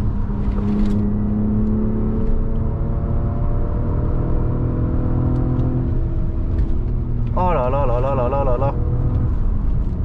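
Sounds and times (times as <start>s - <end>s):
car engine running hard: 0.0s - 10.0s
road and tyre rumble: 0.0s - 10.0s.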